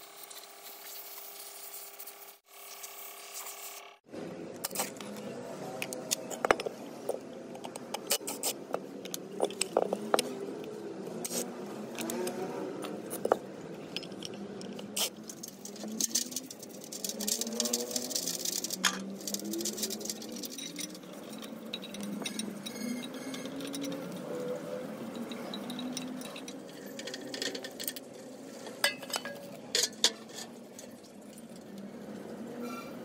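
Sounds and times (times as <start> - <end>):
hand tools clicking and scraping on metal: 4.6 - 33.0.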